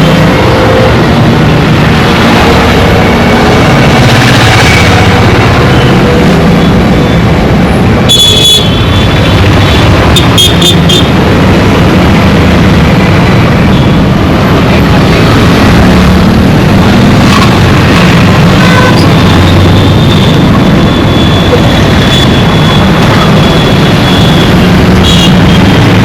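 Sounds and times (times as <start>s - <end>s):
road traffic engines: 0.0s - 26.0s.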